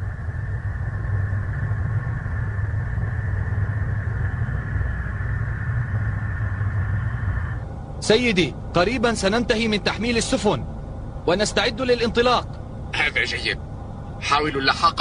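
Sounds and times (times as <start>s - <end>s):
low mechanical hum: 0.0s - 15.0s
thin even whine: 0.0s - 15.0s.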